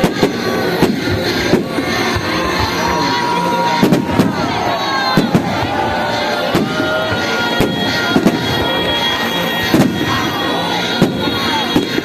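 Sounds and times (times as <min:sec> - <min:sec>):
firework whistles: 0:00.0 - 0:12.0
fireworks bursting with bangs: 0:00.0 - 0:12.0
music playing: 0:00.0 - 0:12.0.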